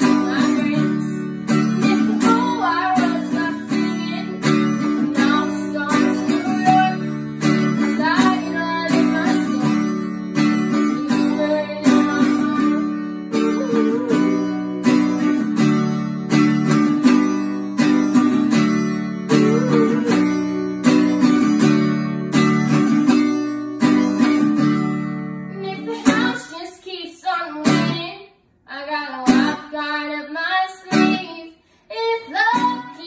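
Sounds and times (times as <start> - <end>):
girl singing: 0.0 - 18.3, 19.3 - 21.9, 25.5 - 33.0
acoustic guitar strumming: 0.0 - 26.7, 27.6 - 28.2, 29.2 - 33.0.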